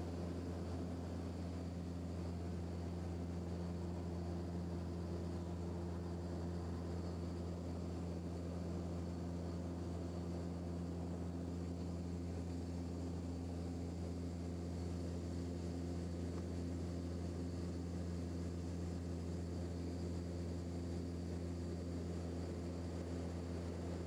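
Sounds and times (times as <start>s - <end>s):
turboprop cabin drone: 0.0s - 24.0s.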